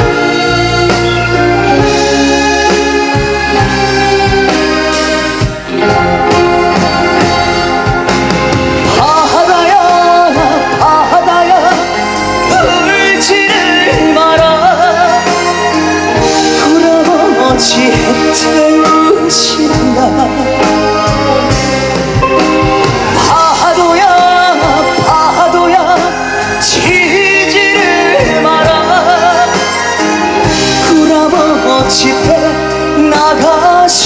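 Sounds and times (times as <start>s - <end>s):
vibrato lead melody: 0.0s - 34.0s.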